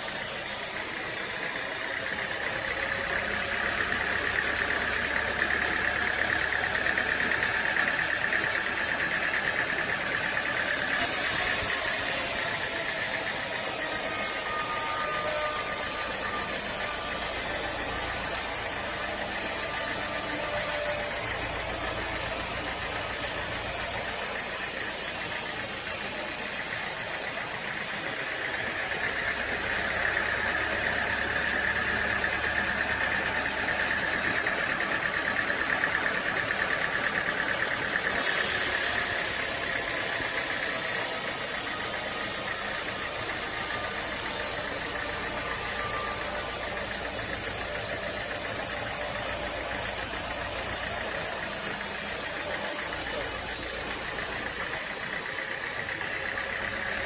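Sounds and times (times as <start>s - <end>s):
high steady whine: 0.0s - 55.0s
sawmill engine running: 0.0s - 57.0s.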